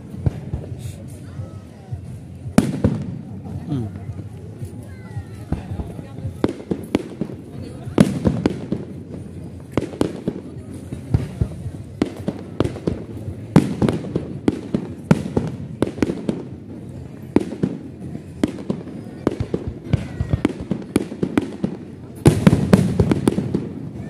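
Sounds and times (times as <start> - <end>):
fireworks cracking and popping: 2.3 - 24.0.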